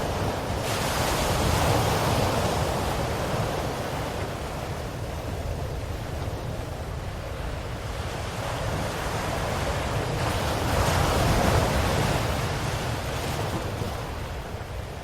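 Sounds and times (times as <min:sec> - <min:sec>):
low rumble of surf: 0:00.0 - 0:15.0.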